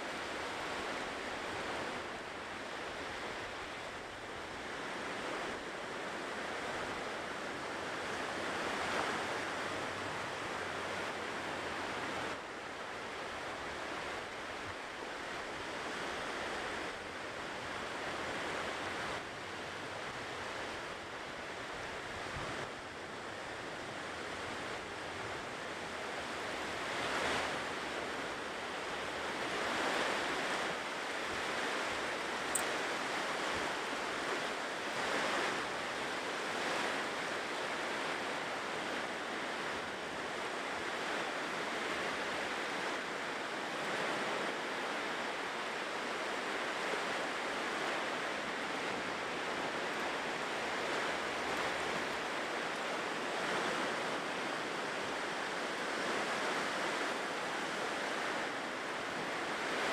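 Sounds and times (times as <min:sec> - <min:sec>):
ocean surf washing onto shore: 0:00.0 - 0:59.9
waves breaking: 0:00.0 - 0:59.9.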